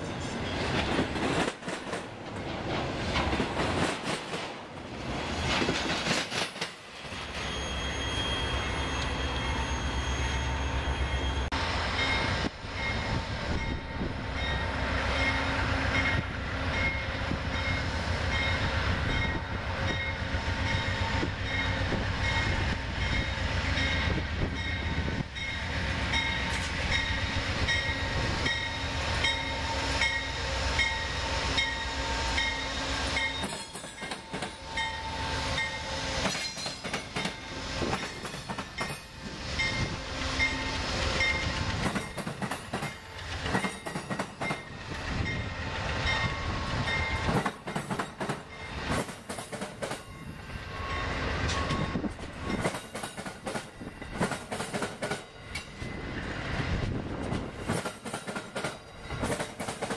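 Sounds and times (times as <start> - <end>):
diesel locomotive engine rumbling: 0.0 - 59.9
train wheels clicking on rail joints: 0.2 - 7.3, 12.8 - 59.9.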